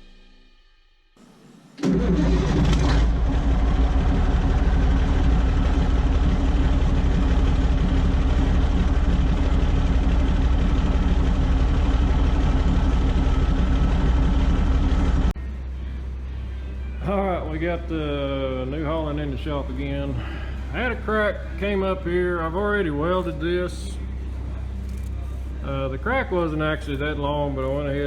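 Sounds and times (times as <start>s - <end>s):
engine running with deep hum: 1.2s - 28.0s.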